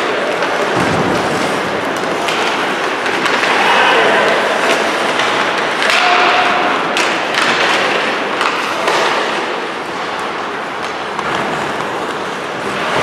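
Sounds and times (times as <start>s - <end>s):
hockey sticks and puck clacking: 0.0s - 13.0s
skates scraping on ice: 0.0s - 13.0s.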